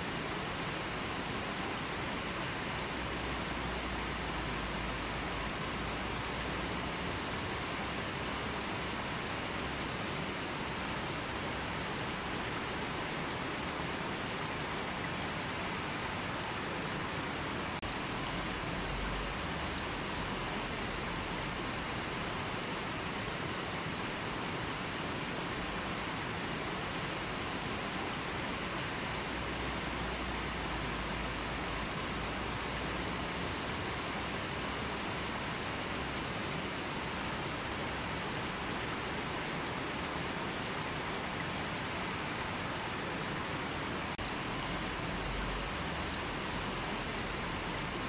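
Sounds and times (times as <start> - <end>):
river water rushing over boulders: 0.0 - 48.0.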